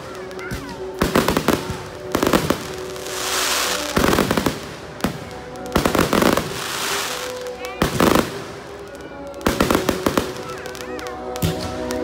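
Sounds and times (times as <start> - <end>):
fireworks bangs: 0.0 - 12.0
fireworks hissing crackle: 0.0 - 12.0.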